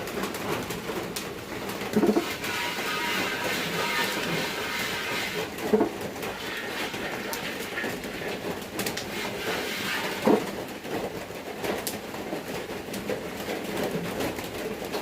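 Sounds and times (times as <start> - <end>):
rain on a metal roof: 0.0 - 15.0.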